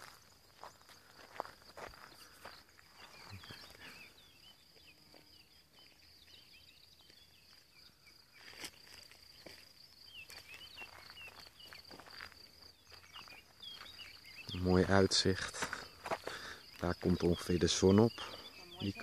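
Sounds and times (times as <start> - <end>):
footsteps in dry grass: 0.0 - 17.3
small birds chirping: 0.0 - 19.0.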